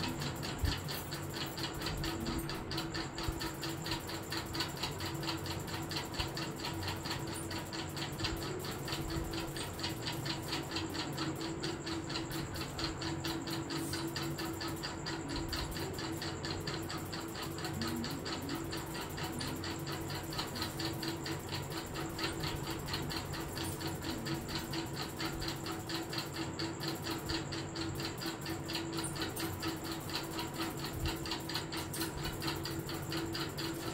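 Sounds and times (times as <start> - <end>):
fast even ticking: 0.0 - 33.9
steady low hum: 0.0 - 33.9.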